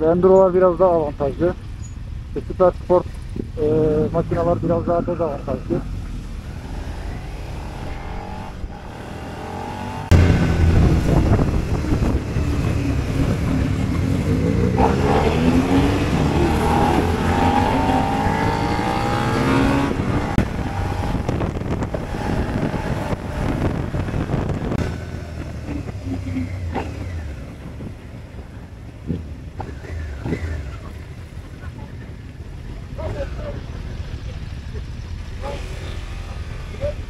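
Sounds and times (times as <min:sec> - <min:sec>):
motorcycle engines revving: 0:00.0 - 0:37.0.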